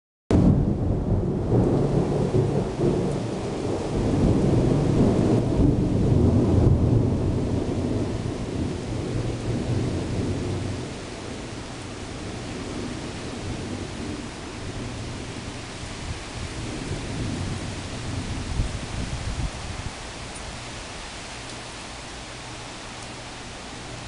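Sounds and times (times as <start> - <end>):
thunder rumbling: 0.3 - 20.0
steady rain: 0.3 - 24.0.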